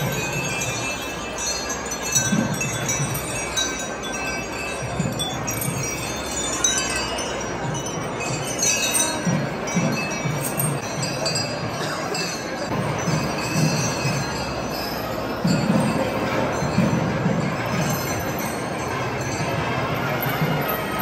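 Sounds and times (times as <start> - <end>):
iron chains jingling: 0.0 - 21.0.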